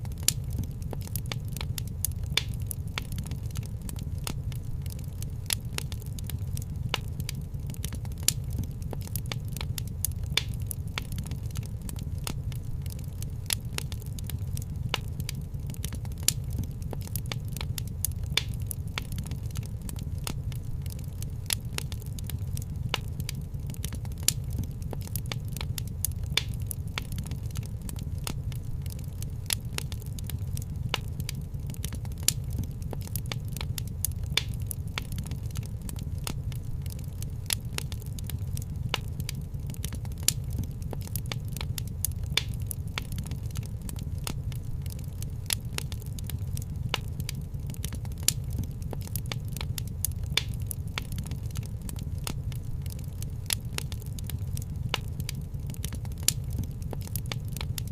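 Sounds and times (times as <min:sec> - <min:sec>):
fire popping and snapping: 0:00.0 - 0:57.9
fire rumbling: 0:00.0 - 0:57.9.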